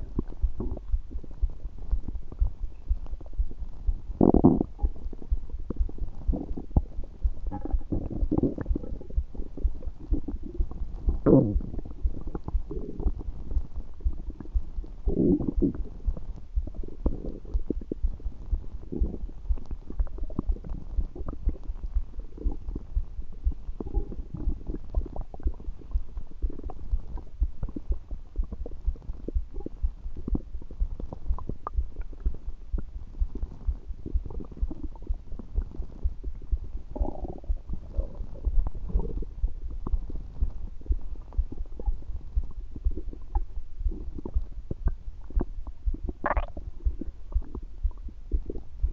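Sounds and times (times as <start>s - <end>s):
stomach gurgling: 0.0s - 48.9s.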